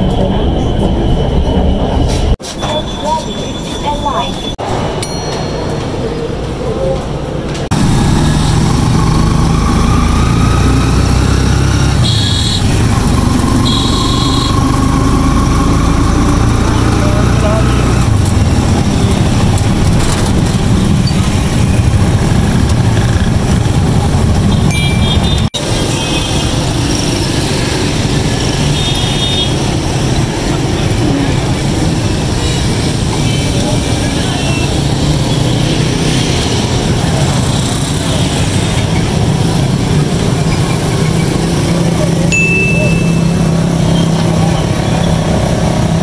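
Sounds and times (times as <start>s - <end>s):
vehicle engines rumbling: 0.0s - 46.0s.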